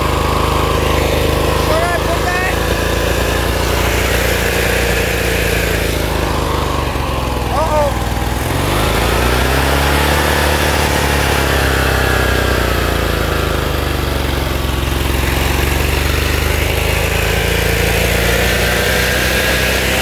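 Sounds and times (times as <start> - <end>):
small petrol engine running: 0.0 - 20.0.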